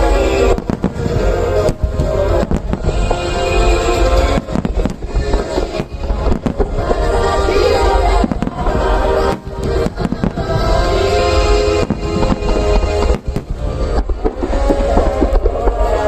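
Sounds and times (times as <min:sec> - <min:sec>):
fireworks bangs and crackle: 0:00.0 - 0:16.0
music with sustained notes: 0:00.0 - 0:16.0.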